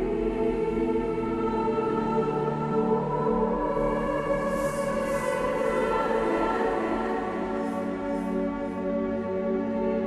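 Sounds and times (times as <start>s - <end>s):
ambient meditation music: 0.0s - 10.0s.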